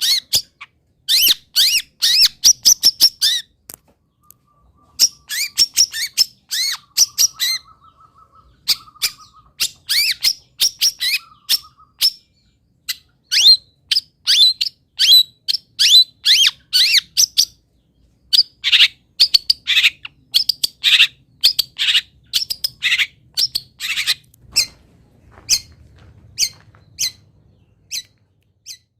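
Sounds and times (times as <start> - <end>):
shrike singing chirps and whistles: 0.0 - 17.6, 18.3 - 24.8.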